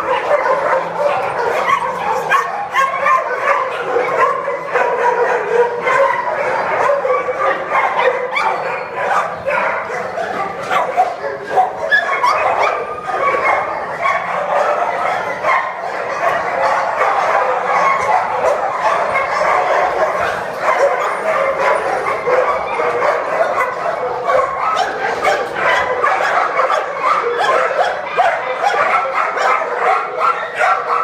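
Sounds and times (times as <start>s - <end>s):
dogs barking and whining: 0.0s - 31.0s.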